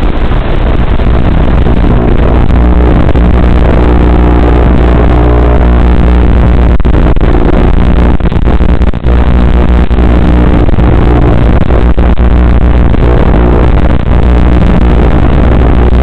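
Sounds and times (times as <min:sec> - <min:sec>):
electronic buzz with low hum: 0:00.0 - 0:16.0.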